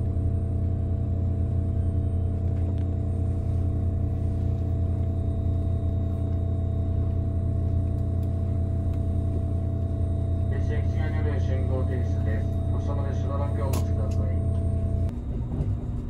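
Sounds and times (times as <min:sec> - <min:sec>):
train equipment humming: 0:00.0 - 0:16.0.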